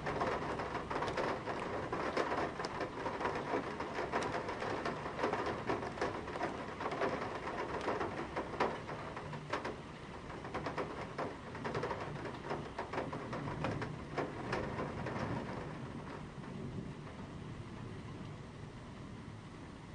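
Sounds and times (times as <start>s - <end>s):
rain drops hitting metal sill: 0.0s - 19.9s
steady rain hiss: 0.0s - 19.9s.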